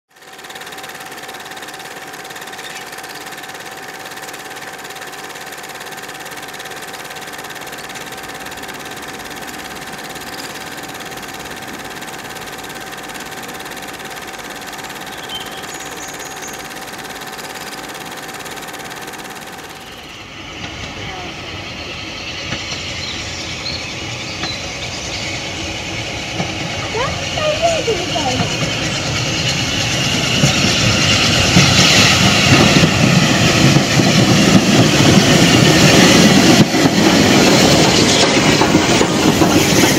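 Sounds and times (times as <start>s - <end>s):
machine running with whine: 0.1s - 39.9s.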